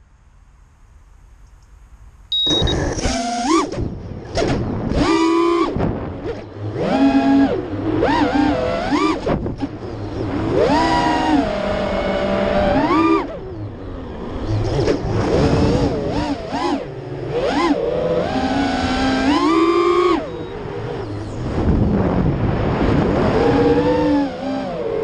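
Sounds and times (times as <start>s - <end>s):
quadcopter motors whining: 2.3s - 25.0s.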